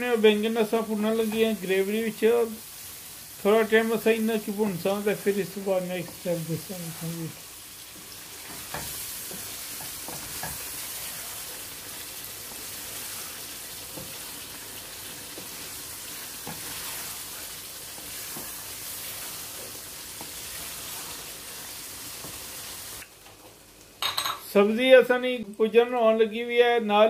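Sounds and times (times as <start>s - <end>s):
vegetables sizzling in a wok: 0.0s - 24.3s.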